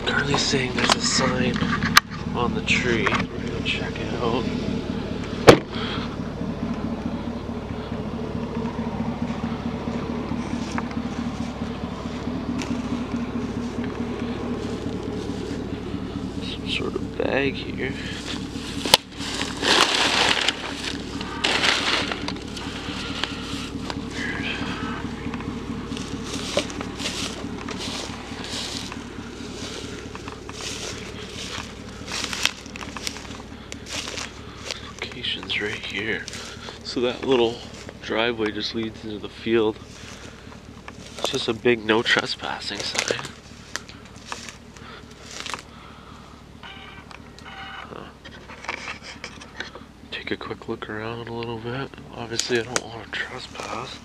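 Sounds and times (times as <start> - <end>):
footsteps crunching through dry grass: 0.0 - 46.5, 52.4 - 54.0
truck engine idling: 0.0 - 54.0.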